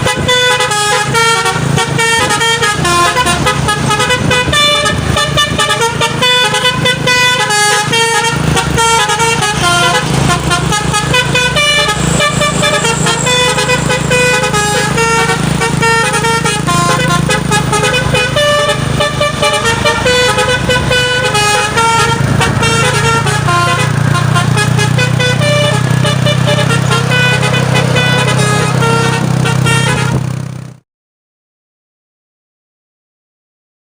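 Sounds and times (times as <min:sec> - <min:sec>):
multi-tone truck horn melody: 0:00.0 - 0:30.8
truck engine running: 0:00.0 - 0:30.8.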